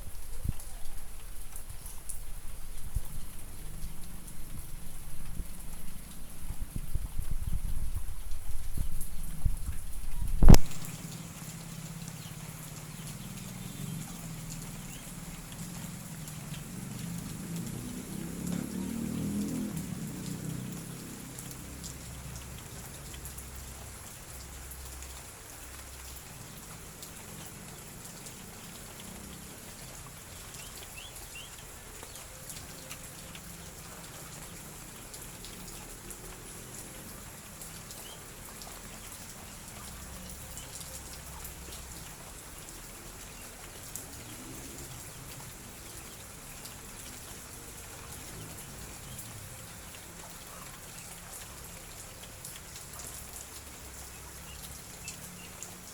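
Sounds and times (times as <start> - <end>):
raindrops ticking on surfaces: 0.0 - 55.9.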